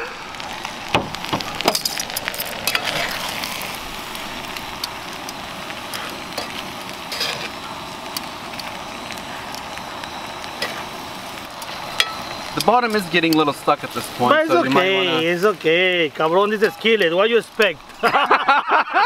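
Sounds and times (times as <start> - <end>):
food sizzling in a skillet: 0.0 - 19.0.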